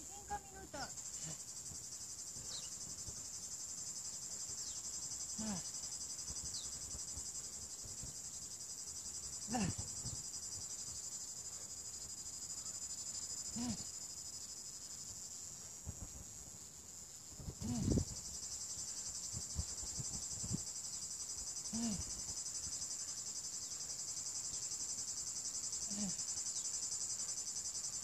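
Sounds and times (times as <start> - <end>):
cicadas shrilling: 0.0 - 15.0, 17.5 - 28.0.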